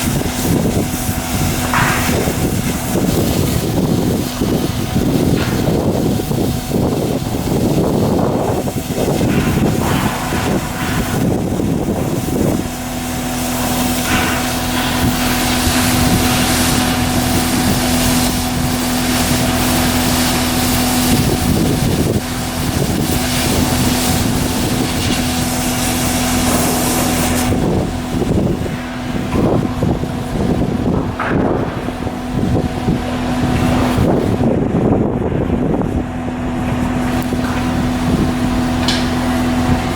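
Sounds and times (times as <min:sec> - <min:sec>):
machinery humming: 0:00.0 - 0:39.9
wind noise on microphone: 0:00.0 - 0:39.9.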